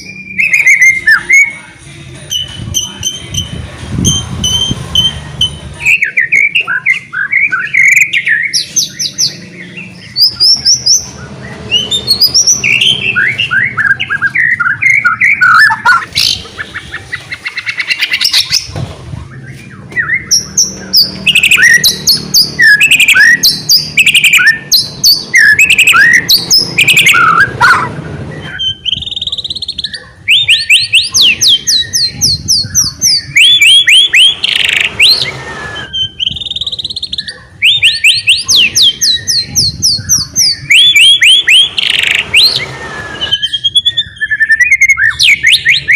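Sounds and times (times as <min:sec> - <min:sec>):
bird singing fast trills: 0:00.0 - 0:18.7, 0:19.3 - 0:45.9.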